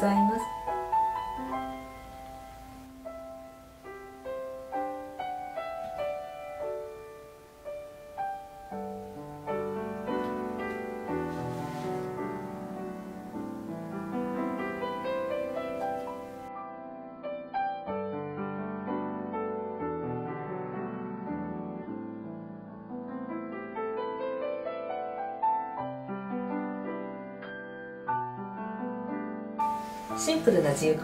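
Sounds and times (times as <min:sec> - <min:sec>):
solo piano music: 0:00.0 - 0:31.0.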